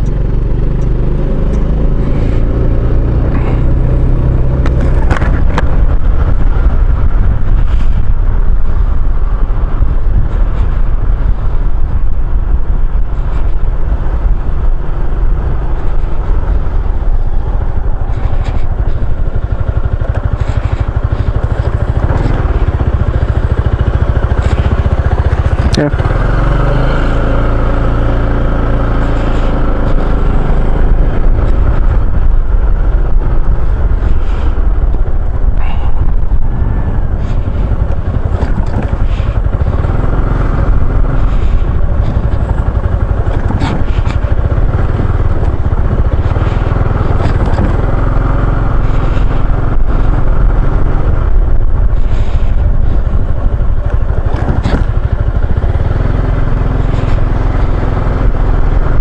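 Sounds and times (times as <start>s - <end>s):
scooter engine running: 0.0s - 59.0s
wind noise: 0.0s - 59.0s.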